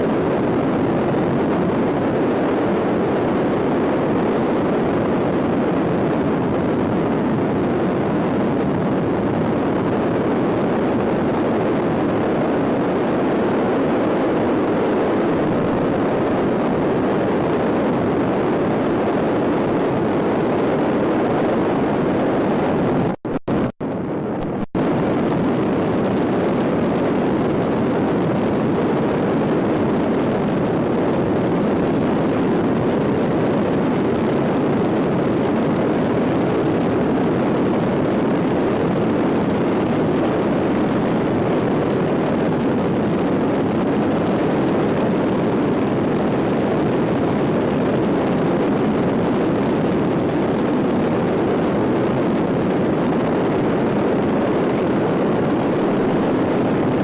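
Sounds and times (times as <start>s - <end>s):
biplane engine drone: 0.0s - 57.0s.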